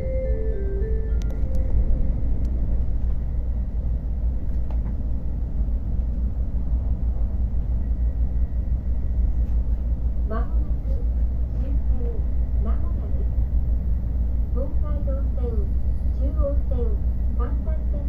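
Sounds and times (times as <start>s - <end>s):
train rumbling inside cabin: 0.0s - 18.0s.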